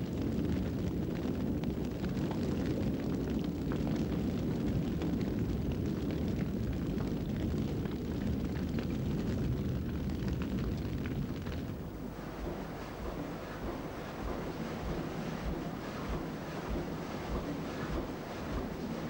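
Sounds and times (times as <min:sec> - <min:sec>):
fire crackling: 0:00.0 - 0:19.0
fire roaring: 0:00.0 - 0:19.0.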